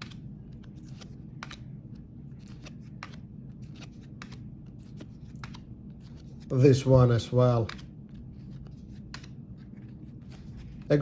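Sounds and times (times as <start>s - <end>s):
cards being flipped through: 0.0s - 11.0s
low steady hum: 0.0s - 11.0s.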